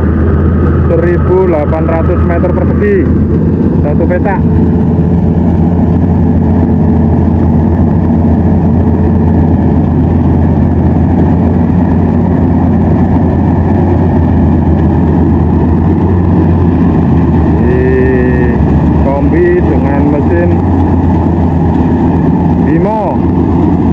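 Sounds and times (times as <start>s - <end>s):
combine harvester engine running: 0.0s - 23.9s.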